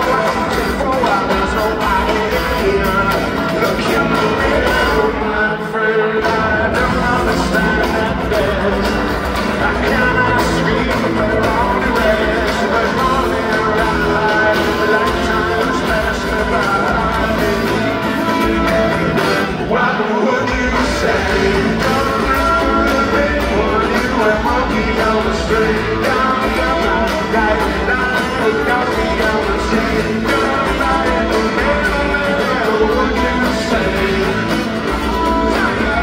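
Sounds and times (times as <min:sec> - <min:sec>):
person singing: 0:00.0 - 0:36.0
rock band playing live: 0:00.0 - 0:36.0.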